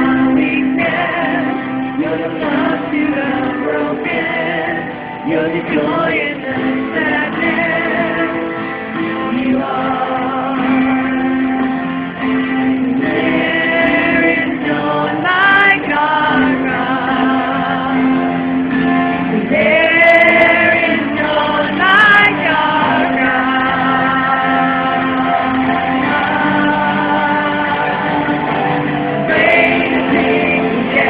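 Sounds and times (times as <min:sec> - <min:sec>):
voices singing together: 0:00.0 - 0:31.0.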